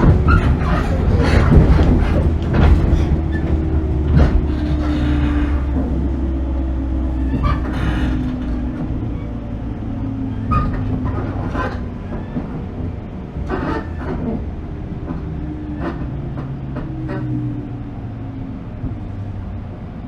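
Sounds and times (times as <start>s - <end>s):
rail clacks and knocks: 0.0s - 20.0s
train rumble and motor hum: 0.0s - 20.0s.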